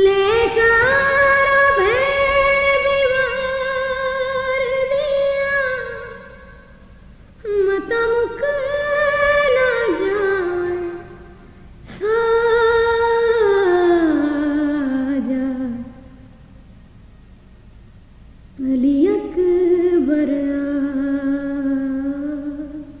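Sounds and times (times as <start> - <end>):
woman singing a lament: 0.0 - 6.7, 7.4 - 16.1, 18.6 - 23.0.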